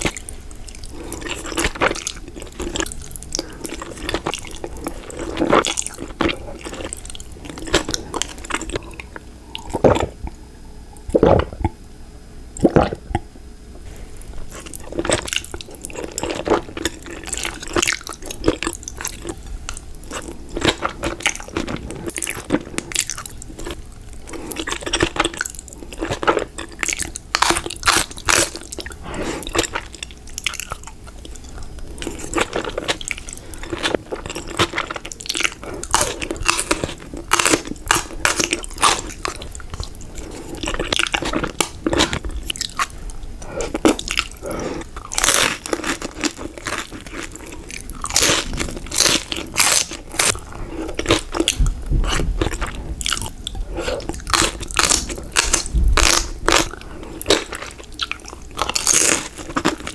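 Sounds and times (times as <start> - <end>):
slurping and chewing noodles: 0.0 - 10.2, 13.9 - 59.9.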